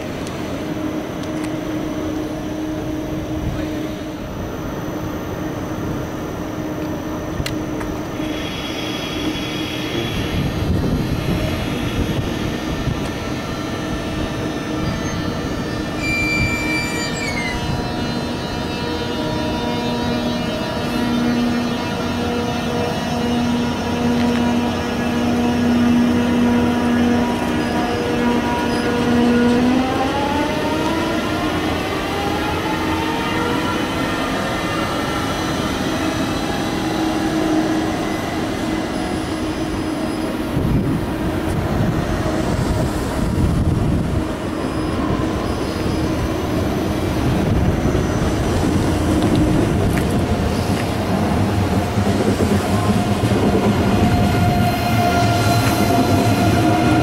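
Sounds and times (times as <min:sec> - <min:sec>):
train traction drive whining: 0:00.0 - 0:57.0
train wheels rumbling on rails: 0:00.0 - 0:57.0.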